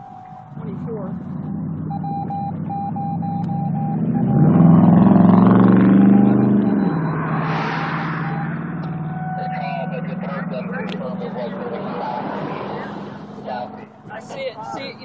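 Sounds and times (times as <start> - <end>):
tyre and road noise: 0.0 - 15.0
vehicle engine passing by: 0.9 - 14.0.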